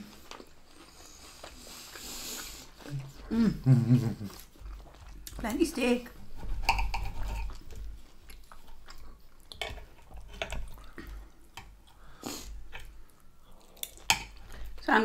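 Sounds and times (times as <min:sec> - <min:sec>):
chewing and mouth sounds: 0:00.0 - 0:14.9.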